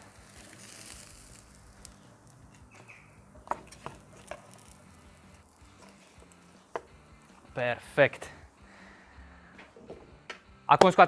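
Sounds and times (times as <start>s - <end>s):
faint hiss: 0.0s - 9.7s.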